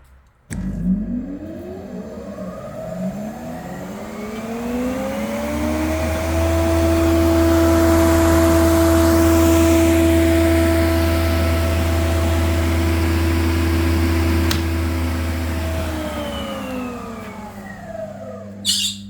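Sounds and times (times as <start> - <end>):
planer humming and whining: 0.5 - 19.0.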